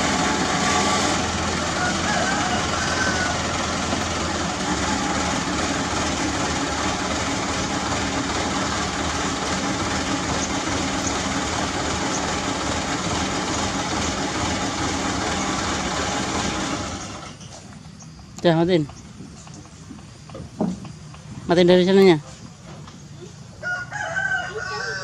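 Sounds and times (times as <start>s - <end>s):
diesel truck engine running: 0.0s - 23.6s.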